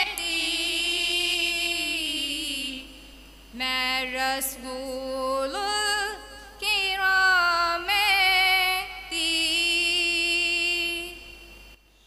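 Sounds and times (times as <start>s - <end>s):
women singing together: 0.0s - 2.9s, 3.6s - 11.2s.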